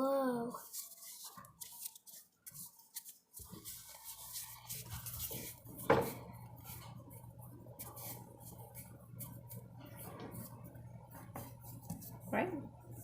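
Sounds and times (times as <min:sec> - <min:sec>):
low steady hum: 0:00.0 - 0:13.0
hands working sticky slime: 0:00.6 - 0:12.6.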